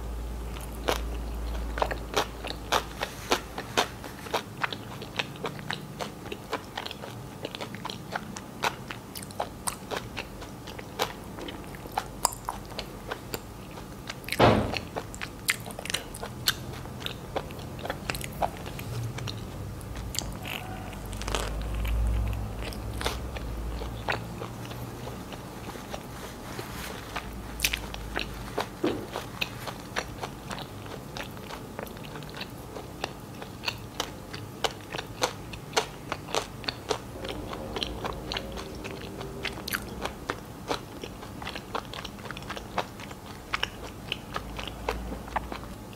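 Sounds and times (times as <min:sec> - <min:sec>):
close chewing of a sandwich: 0:00.0 - 0:45.9.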